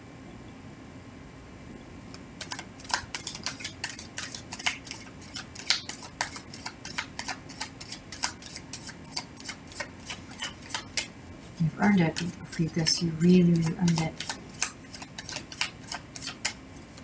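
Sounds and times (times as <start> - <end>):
cards being shuffled by hand: 2.4 - 17.0.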